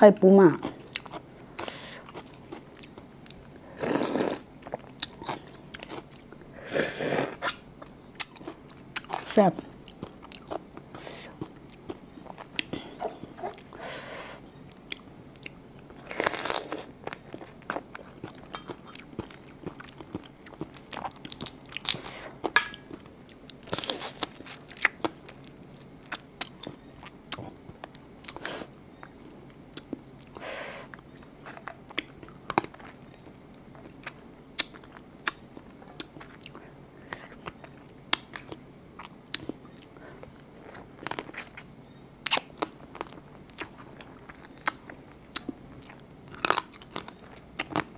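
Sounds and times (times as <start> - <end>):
crunching and chewing: 0.6 - 6.4, 7.4 - 13.8, 14.6 - 47.9.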